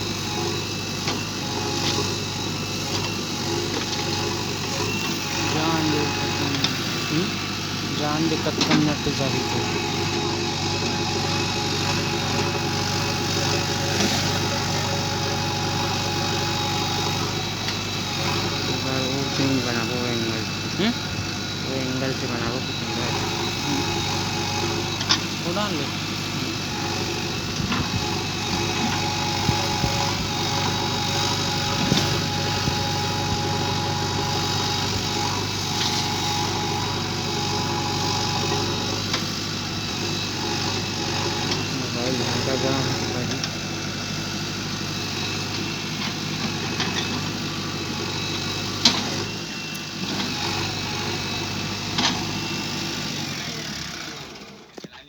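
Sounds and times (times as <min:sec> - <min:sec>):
excavator diesel engine idling: 0:00.0 - 0:55.0.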